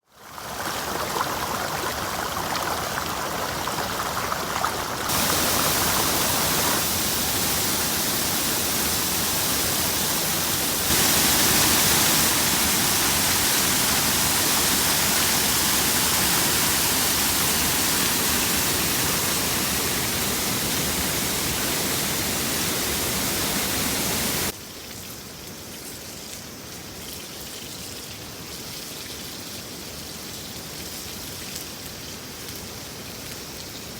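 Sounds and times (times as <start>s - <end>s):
river water running over stones: 0.1s - 33.6s.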